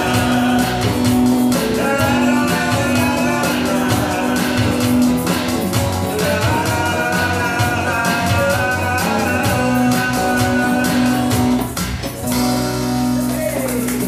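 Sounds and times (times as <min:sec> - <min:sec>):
acoustic guitar strumming: 0:00.0 - 0:14.0
electric bass: 0:00.0 - 0:14.0.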